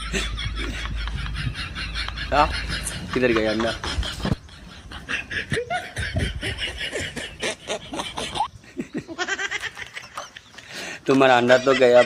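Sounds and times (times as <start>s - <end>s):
bursts of laughter: 0.0s - 10.6s, 11.3s - 12.0s.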